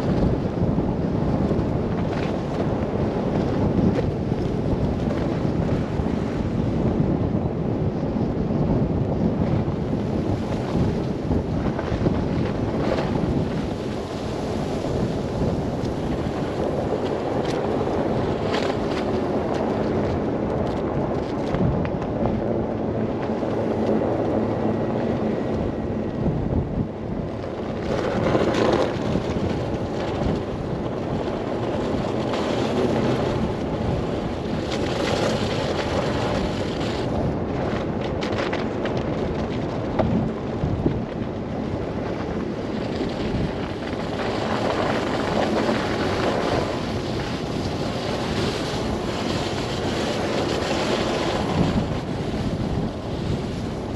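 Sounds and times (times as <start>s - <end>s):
car driving on snowy road: 0.0s - 53.9s
wind blowing in blizzard: 0.0s - 53.9s.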